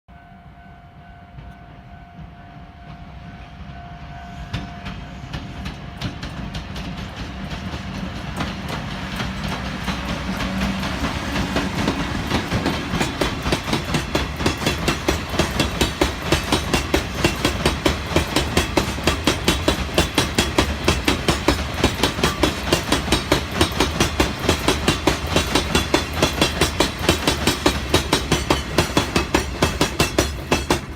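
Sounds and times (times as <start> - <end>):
freight train passing: 0.1 - 30.9
wheels clicking over rail joints: 5.3 - 30.9.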